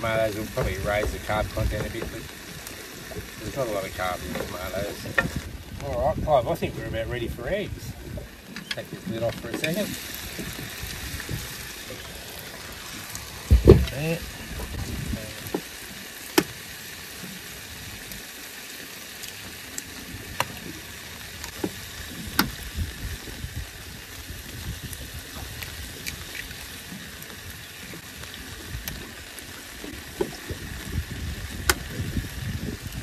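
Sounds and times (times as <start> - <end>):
stew simmering and sizzling: 0.0 - 33.0.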